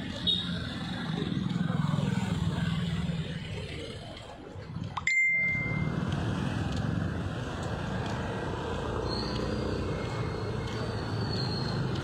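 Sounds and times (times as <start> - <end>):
motorcycles and cars passing: 0.0 - 12.0.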